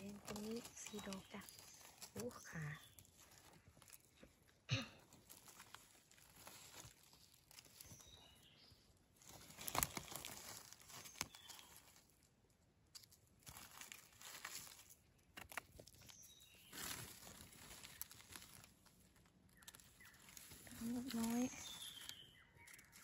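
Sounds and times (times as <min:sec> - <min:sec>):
dry leaves rustling and crackling: 0:00.0 - 0:23.0.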